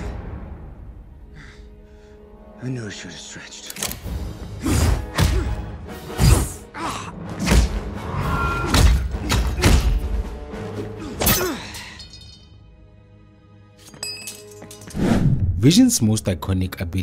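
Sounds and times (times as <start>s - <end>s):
dramatic background music: 0.0s - 17.0s.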